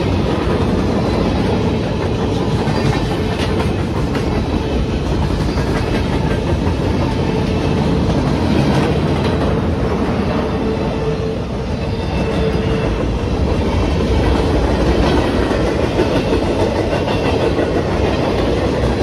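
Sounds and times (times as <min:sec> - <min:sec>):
freight train wheels clattering on rails: 0:00.0 - 0:19.0.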